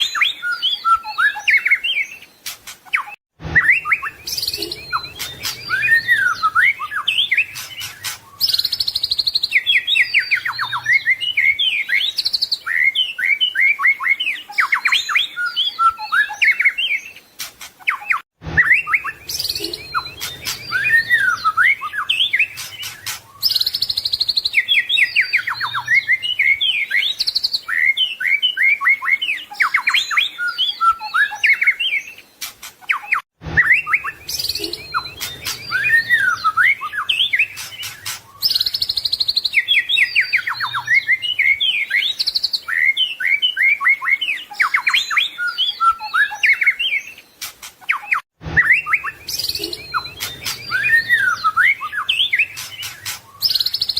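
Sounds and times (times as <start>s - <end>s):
bird singing whistles and trills: 0.0s - 53.9s.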